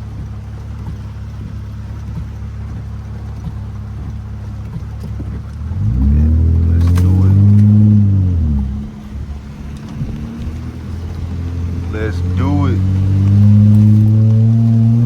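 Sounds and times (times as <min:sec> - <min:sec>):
car engine revving inside cabin: 0:00.0 - 0:15.0.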